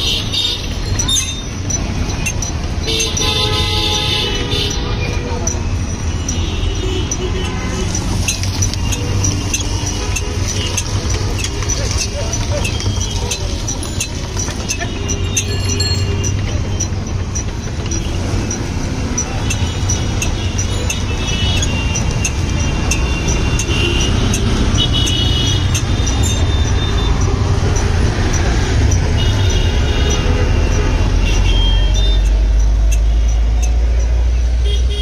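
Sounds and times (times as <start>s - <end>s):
gears clicking: 0.0s - 34.6s
roadside traffic: 0.0s - 35.0s.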